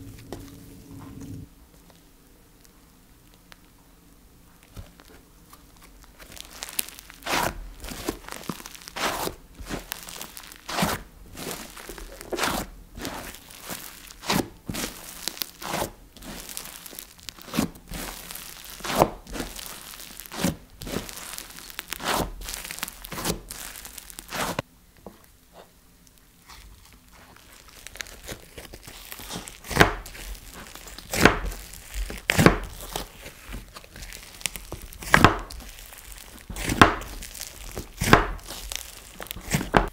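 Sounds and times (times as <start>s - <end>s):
sticky slime popping and crackling: 4.6s - 24.6s, 26.4s - 39.9s.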